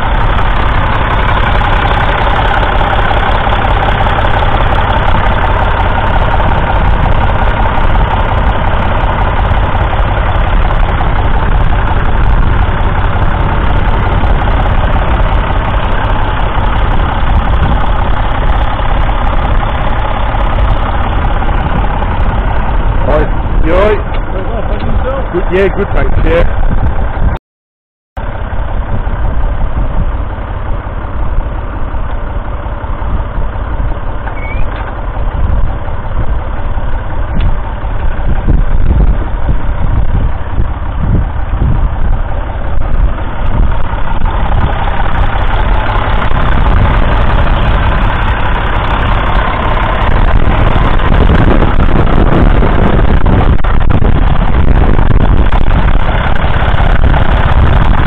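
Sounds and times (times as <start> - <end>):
diesel tractor engine running: 0.0 - 27.4, 28.2 - 58.0.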